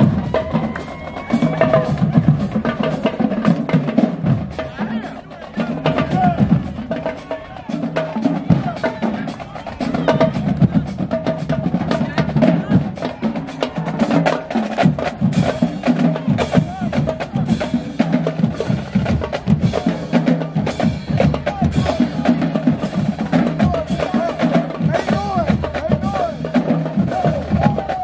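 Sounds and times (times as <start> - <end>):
bass drum beats: 0.0 - 28.0.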